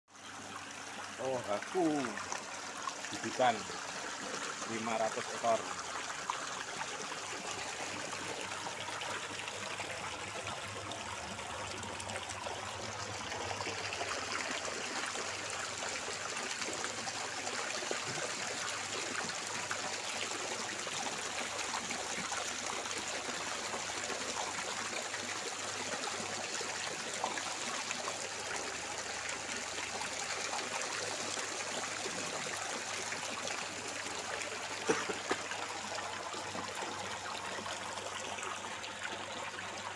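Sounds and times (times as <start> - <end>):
water trickling and splashing: 0.1 - 39.9.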